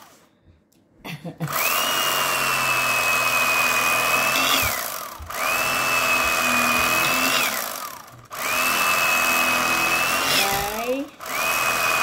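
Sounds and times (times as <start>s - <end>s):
kitchen appliance motor whine: 1.6s - 12.0s.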